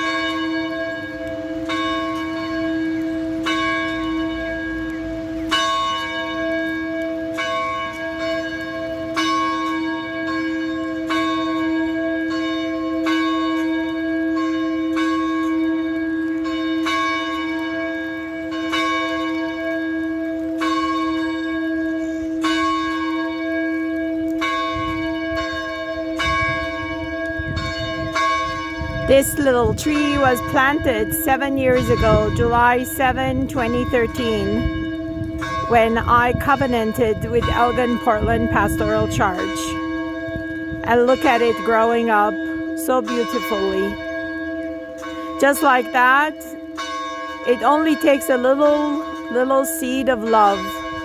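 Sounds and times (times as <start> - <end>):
church bell tolling: 0.0 - 51.0.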